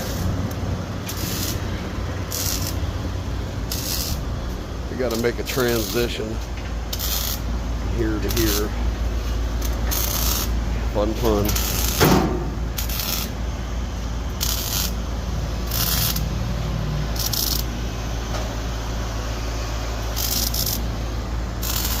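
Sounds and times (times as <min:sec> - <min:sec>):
arc welding crackling hiss: 0:00.0 - 0:22.0
machine hum: 0:00.0 - 0:22.0.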